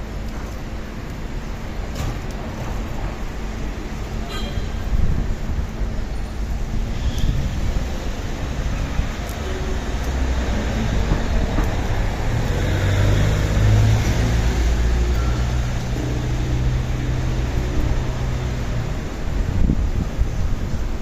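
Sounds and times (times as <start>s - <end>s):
rumble of noise: 0.0s - 21.0s
vehicle engine humming: 0.0s - 21.0s.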